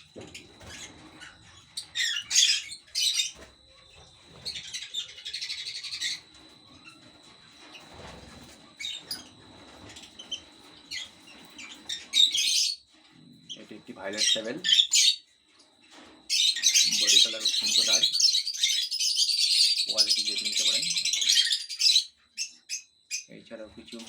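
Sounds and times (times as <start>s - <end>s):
lovebirds chirping and squawking: 0.0s - 24.0s.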